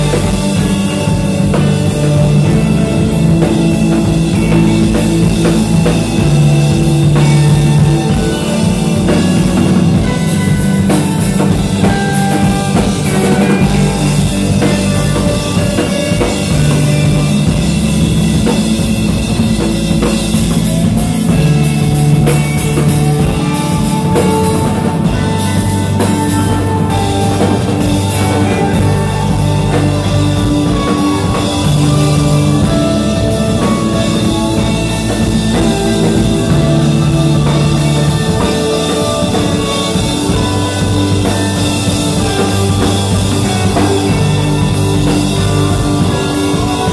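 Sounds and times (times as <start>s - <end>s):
drum kit: 0.0s - 46.9s
electric guitar: 0.0s - 46.9s
rock band playing: 0.0s - 46.9s.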